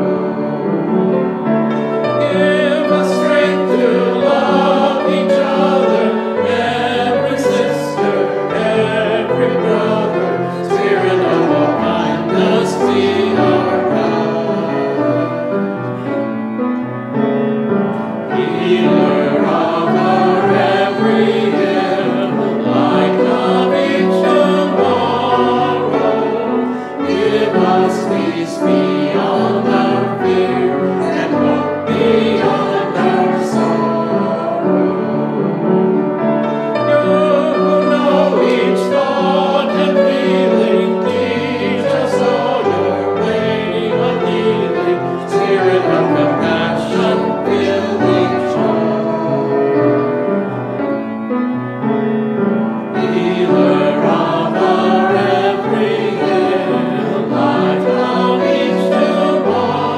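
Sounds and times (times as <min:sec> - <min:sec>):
group singing a hymn: 0:00.0 - 0:51.1, 0:51.8 - 0:59.9
instrumental accompaniment: 0:00.0 - 0:59.9.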